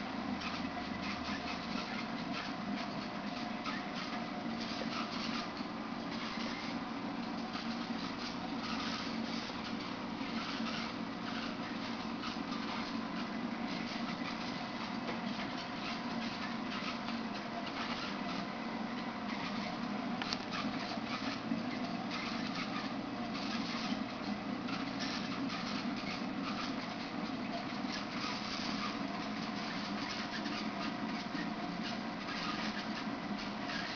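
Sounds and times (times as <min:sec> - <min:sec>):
aquarium pumps humming: 0:00.0 - 0:33.9.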